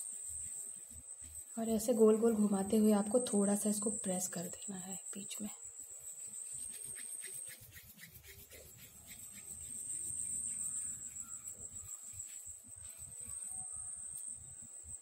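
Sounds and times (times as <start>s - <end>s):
cricket chirring: 0.0s - 15.0s.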